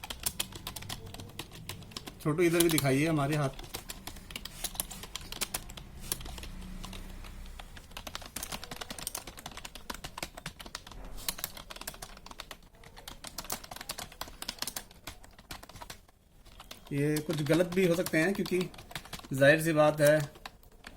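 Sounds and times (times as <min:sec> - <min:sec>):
typing on computer keyboard: 0:00.0 - 0:20.9.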